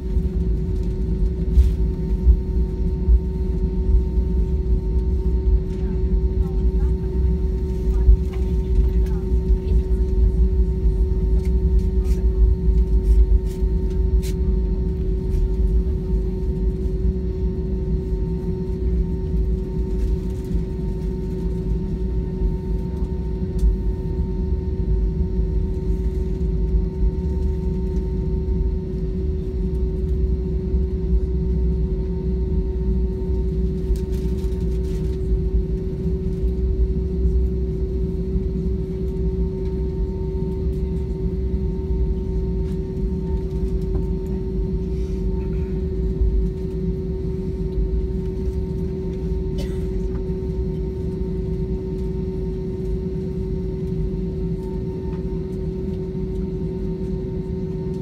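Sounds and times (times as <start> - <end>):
jet engine hum: 0.0 - 58.0.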